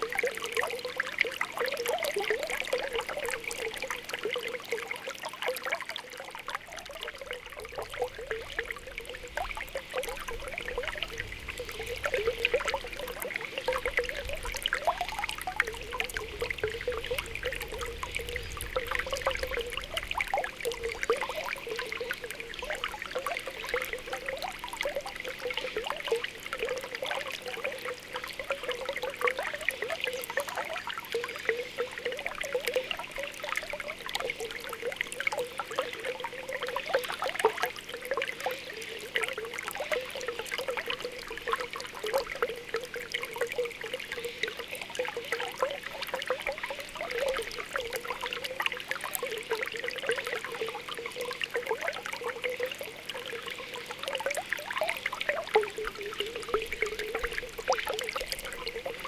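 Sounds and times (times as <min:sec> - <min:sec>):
bubbles popping and gurgling: 0:00.0 - 0:59.0
water trickling: 0:00.0 - 0:59.0.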